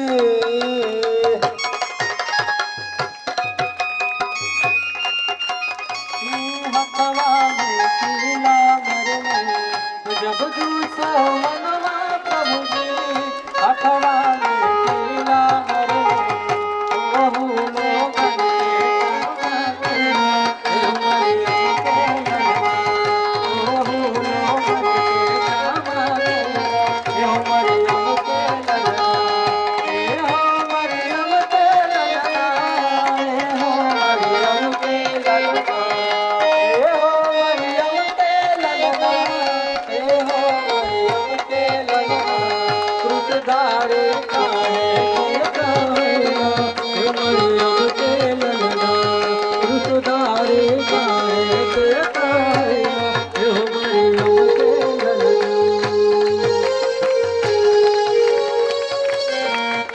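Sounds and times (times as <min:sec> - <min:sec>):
hand drum rhythm: 0:00.0 - 0:07.2, 0:07.9 - 0:59.9.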